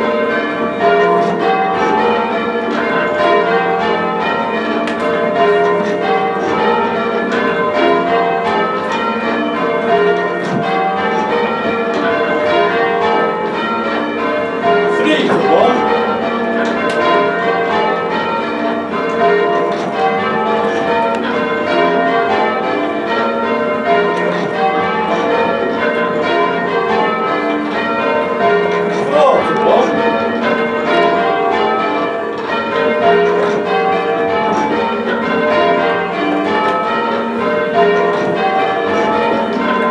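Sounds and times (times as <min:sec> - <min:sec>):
heavy church bells ringing: 0:00.0 - 0:39.9.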